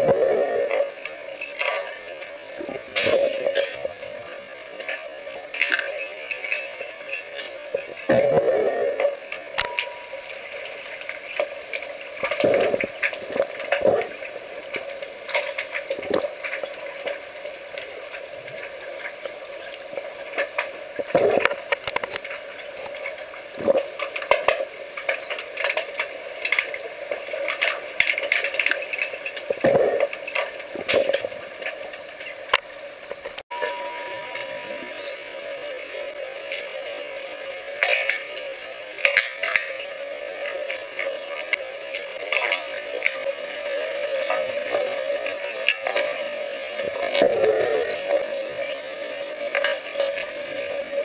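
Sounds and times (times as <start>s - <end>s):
underwater bubbling crackle: 0.0s - 51.0s.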